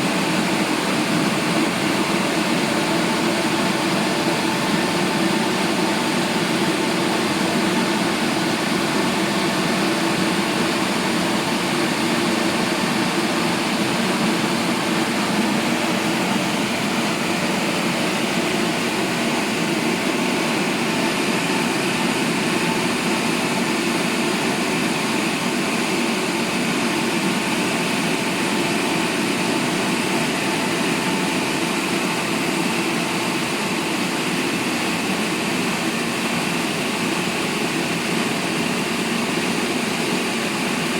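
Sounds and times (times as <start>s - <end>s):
car wash rushing noise: 0.0s - 40.9s.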